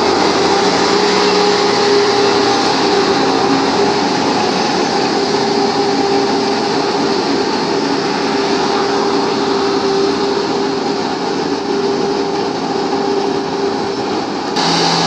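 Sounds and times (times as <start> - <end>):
rushing water noise: 0.0 - 15.0
tractor diesel engine hum: 0.0 - 15.0.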